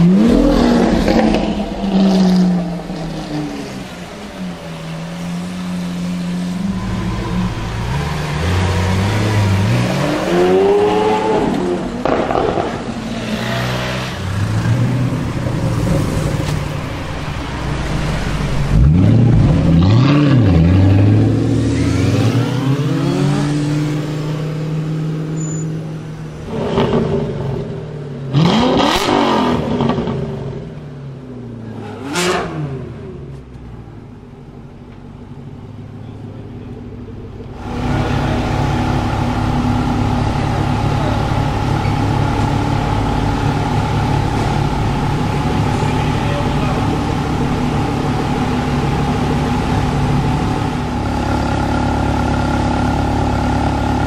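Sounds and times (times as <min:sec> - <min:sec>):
supercar engines revving: 0:00.0 - 0:54.0.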